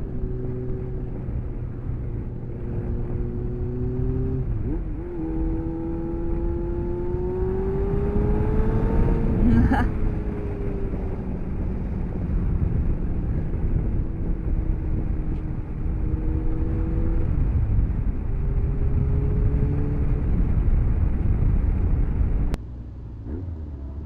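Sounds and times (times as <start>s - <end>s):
motorcycle engine: 0.0s - 24.0s
wind rumble on microphone: 0.0s - 24.0s.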